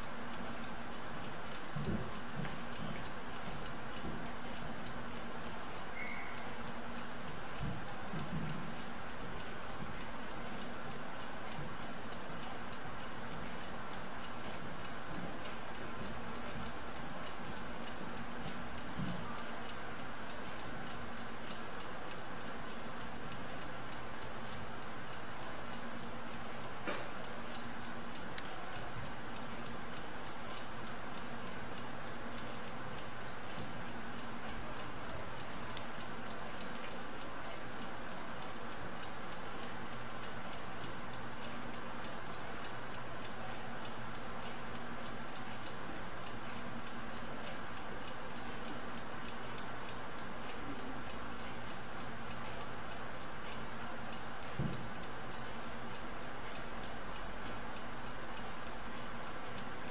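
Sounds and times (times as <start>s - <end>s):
stopclock ticking fast: 0.0s - 59.9s.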